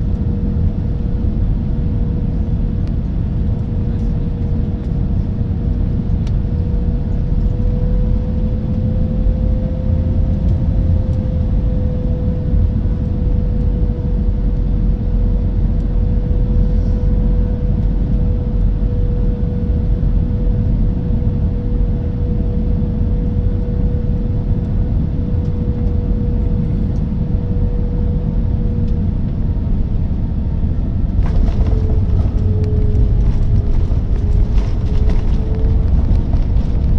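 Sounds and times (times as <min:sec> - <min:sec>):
aircraft cabin rumble: 0:00.0 - 0:36.9.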